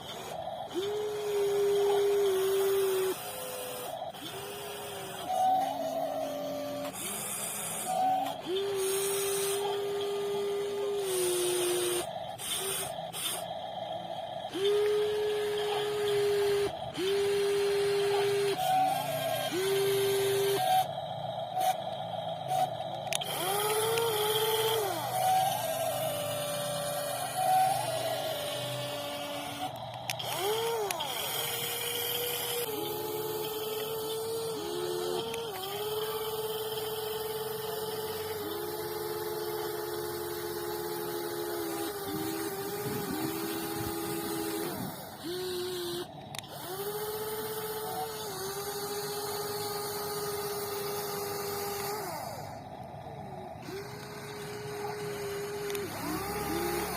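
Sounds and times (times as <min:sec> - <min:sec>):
electric motors whining: 0:00.0 - 0:56.9.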